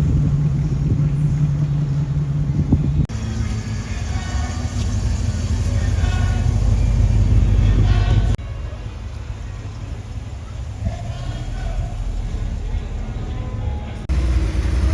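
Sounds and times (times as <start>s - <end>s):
car engine rumbling: 0.0s - 14.9s
faint voices: 0.0s - 14.9s
heavier engine rumble: 0.0s - 14.9s.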